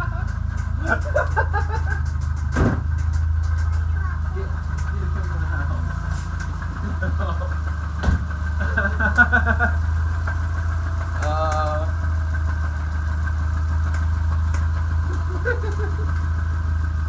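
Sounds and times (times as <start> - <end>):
engine idling with a knock: 0.0 - 17.0.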